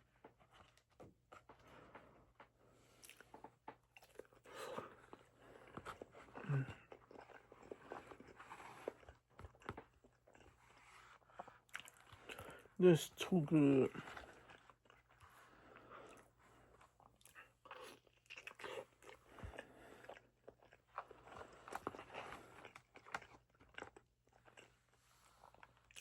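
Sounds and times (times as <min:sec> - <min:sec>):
person chewing: 0:02.4 - 0:12.8, 0:13.6 - 0:26.0.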